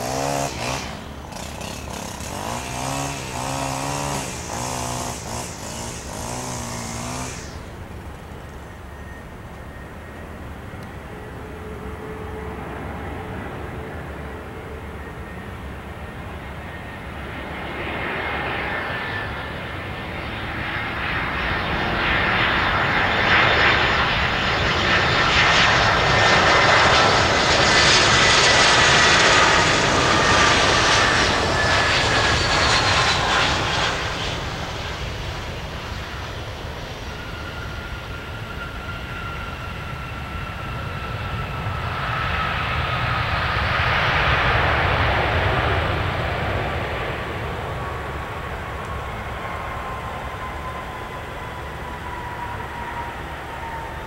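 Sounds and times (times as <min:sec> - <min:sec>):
jet engines whine and rumble: 0:00.0 - 0:54.0.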